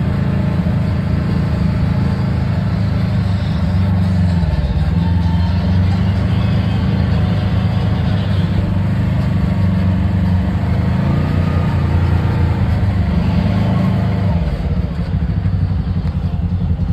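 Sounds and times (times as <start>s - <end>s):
utility vehicle engine running: 0.0s - 16.9s.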